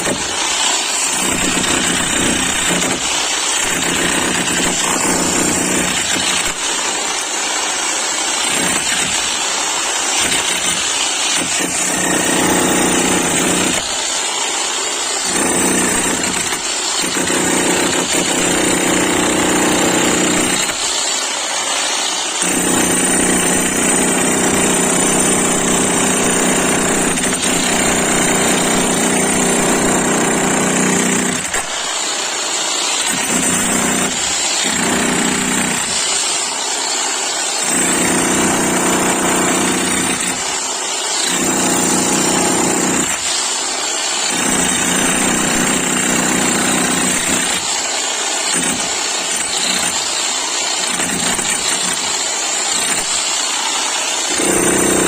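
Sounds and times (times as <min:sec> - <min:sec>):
electric demolition hammer: 0:00.0 - 0:55.0.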